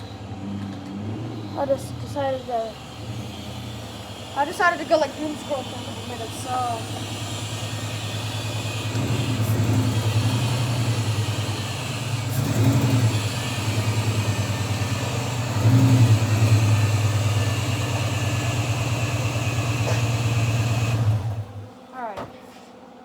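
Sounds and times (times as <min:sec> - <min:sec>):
motor running with pulsing hum: 0:00.0 - 0:23.0.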